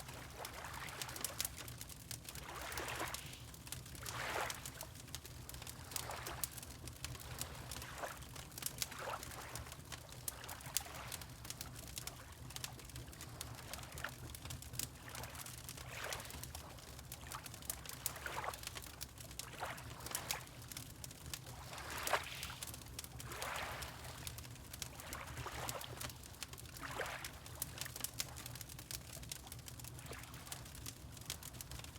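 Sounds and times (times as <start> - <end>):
waves lapping against shore: 0.0 - 12.4, 15.0 - 28.7
wood fire crackling and popping: 0.0 - 19.6, 20.3 - 23.4, 24.0 - 31.9.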